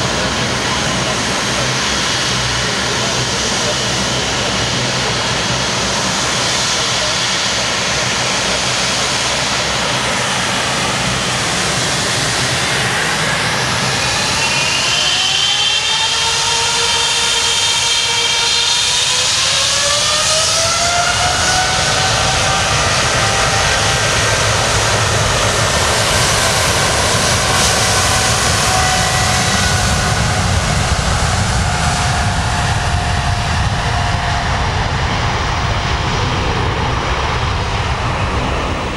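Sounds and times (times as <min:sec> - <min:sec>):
deep engine rumble: 0:00.0 - 0:15.0, 0:19.2 - 0:38.9
jet engines whining: 0:00.0 - 0:38.9.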